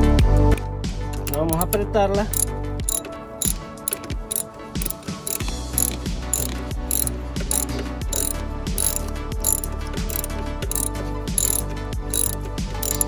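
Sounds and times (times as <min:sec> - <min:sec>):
background music: 0:00.0 - 0:13.0
ratchet wrench clicking: 0:01.1 - 0:13.0.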